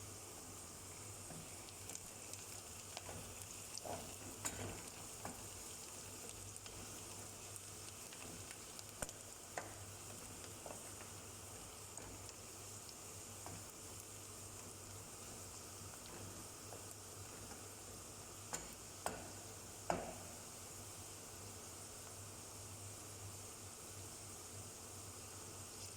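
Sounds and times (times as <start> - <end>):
food sizzling in a pan: 0.0 - 25.9.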